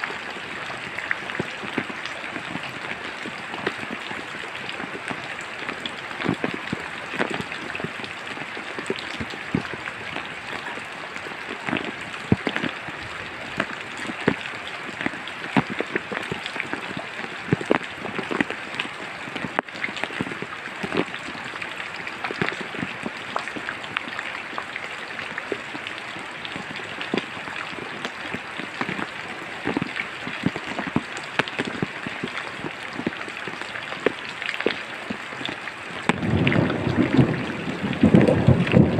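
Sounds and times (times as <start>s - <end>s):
raindrops landing close by: 0.0s - 38.9s
steady rain hiss: 0.0s - 38.9s.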